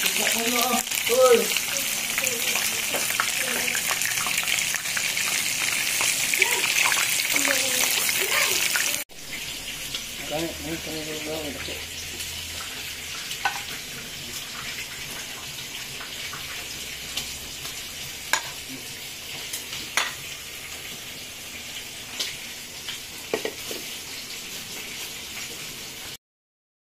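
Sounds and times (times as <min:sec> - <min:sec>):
chicken sizzling in oil: 0:00.0 - 0:26.2
oil crackling and popping: 0:00.0 - 0:26.2.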